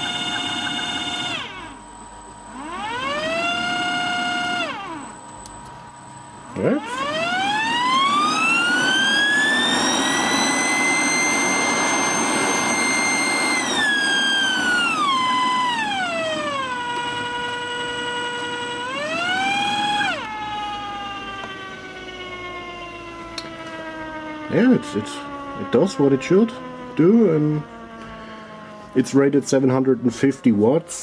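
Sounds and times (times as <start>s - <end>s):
blower high whine: 0.0s - 31.0s.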